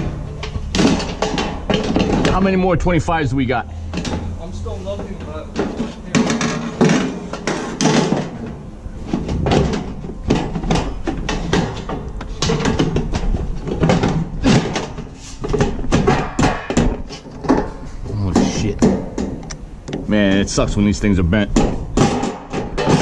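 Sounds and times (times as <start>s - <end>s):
metal shutter panels rattling: 0.0s - 2.8s, 5.0s - 19.4s, 21.5s - 23.0s.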